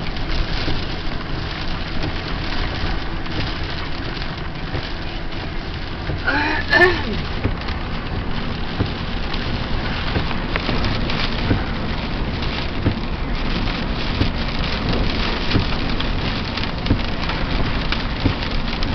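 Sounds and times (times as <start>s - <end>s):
heavy rain drumming on car roof: 0.0s - 18.9s.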